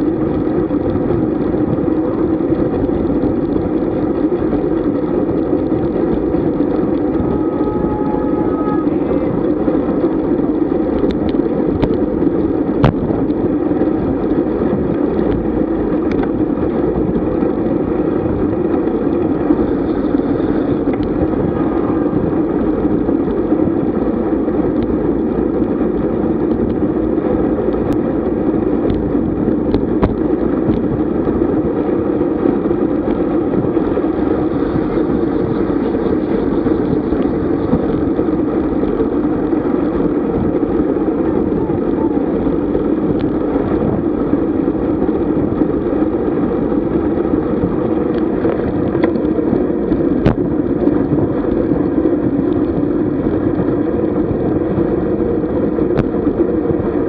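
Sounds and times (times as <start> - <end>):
bike tyres on road: 0.0 - 57.0
wind rushing: 0.0 - 57.0.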